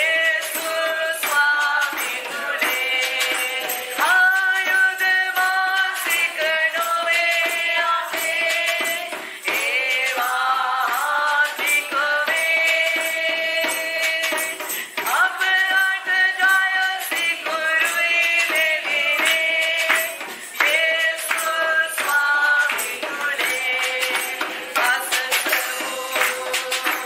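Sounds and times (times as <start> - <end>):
light percussion: 0.0 - 27.0
woman singing into microphone: 0.0 - 27.0.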